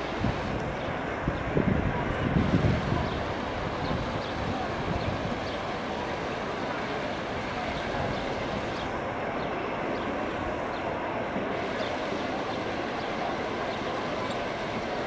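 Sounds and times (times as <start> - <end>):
distant traffic: 0.0 - 15.0
murmur of large crowd: 0.0 - 15.0.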